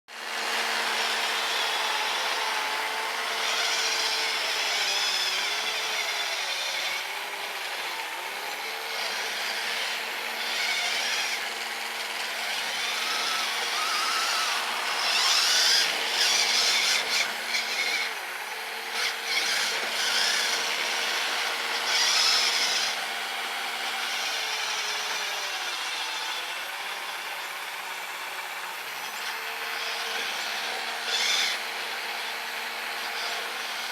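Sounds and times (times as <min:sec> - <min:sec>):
electric motor whining: 0:00.2 - 0:33.9.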